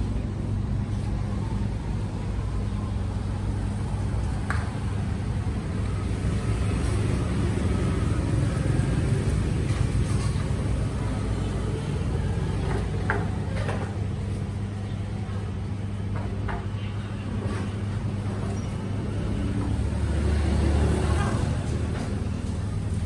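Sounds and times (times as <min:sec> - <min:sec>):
road traffic engine rumble: 0:00.0 - 0:23.0.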